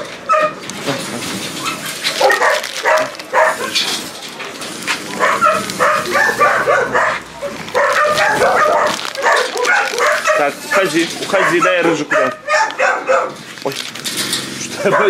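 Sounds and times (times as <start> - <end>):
dogs barking and whining: 0.0 - 0.8, 1.4 - 15.0.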